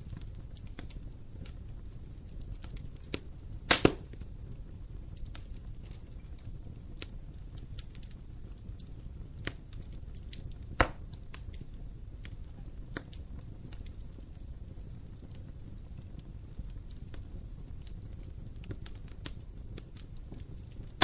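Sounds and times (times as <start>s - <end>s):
fire crackling and popping: 0.0s - 21.0s
low rumble of fire: 0.0s - 21.0s.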